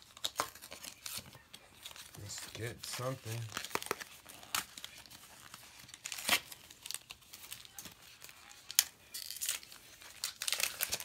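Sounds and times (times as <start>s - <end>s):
foil packet crinkling: 0.0s - 11.0s.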